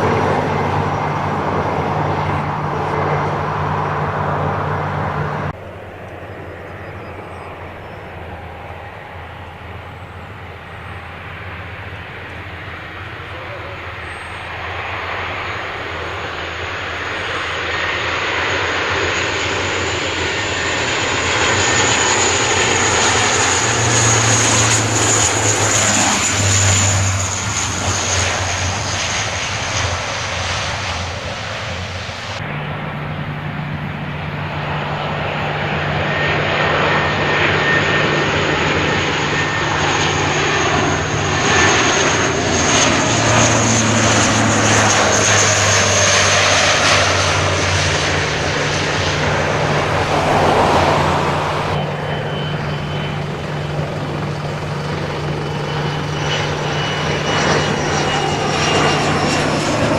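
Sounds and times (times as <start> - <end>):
high jet whine: 0.0 - 59.9
jet engines roaring: 0.0 - 59.9.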